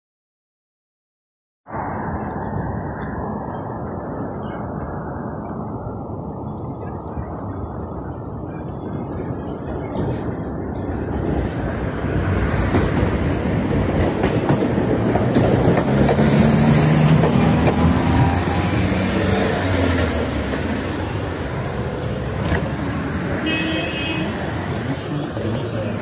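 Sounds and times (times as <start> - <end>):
tram wheels rumbling on rails: 1.7 - 26.0.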